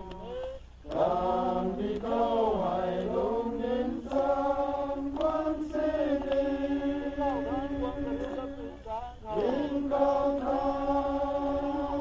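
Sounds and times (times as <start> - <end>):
men singing a hymn: 0.0 - 12.0.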